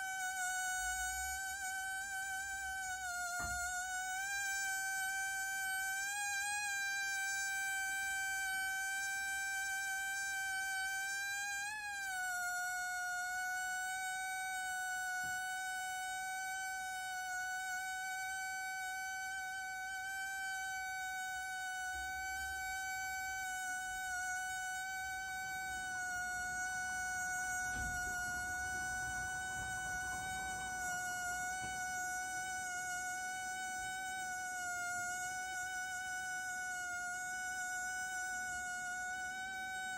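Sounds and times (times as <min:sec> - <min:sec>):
rubber balloon buzzing: 0:00.0 - 0:39.9.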